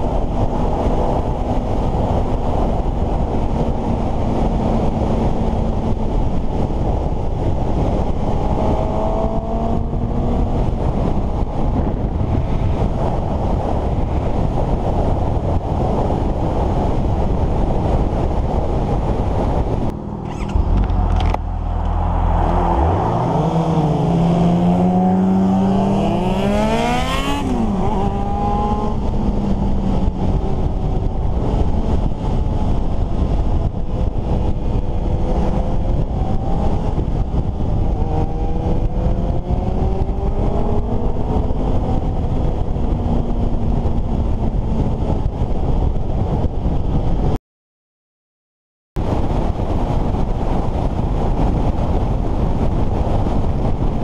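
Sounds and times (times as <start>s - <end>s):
wind rush on microphone: 0.0s - 47.4s, 49.0s - 54.0s.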